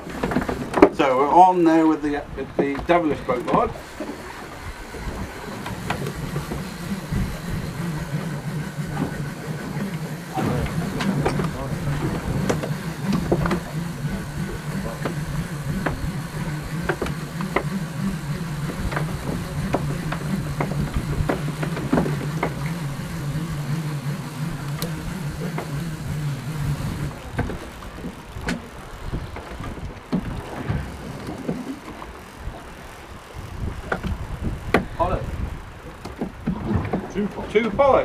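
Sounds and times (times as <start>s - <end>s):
boat engine humming: 0.0s - 38.0s.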